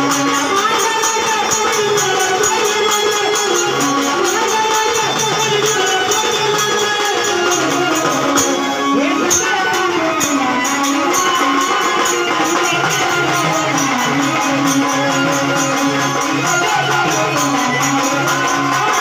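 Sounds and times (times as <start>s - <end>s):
drums: 0.0s - 19.0s
jingling hand percussion: 0.0s - 19.0s
keyboard melody: 0.0s - 19.0s.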